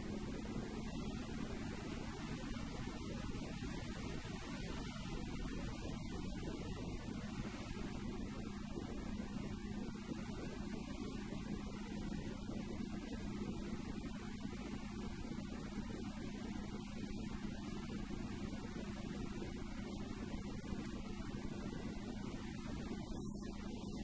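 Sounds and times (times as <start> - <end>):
car engine droning: 0.0 - 24.0.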